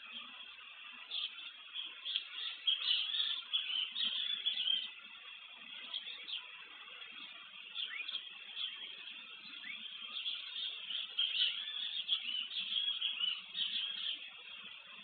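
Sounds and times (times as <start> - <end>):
chirping animal calls: 0.0 - 15.0
outdoor hiss: 0.0 - 15.0.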